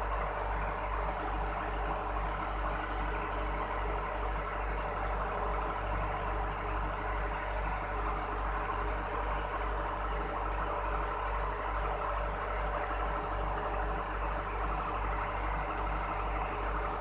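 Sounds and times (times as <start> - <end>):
low mechanical hum with throb: 0.0 - 17.0.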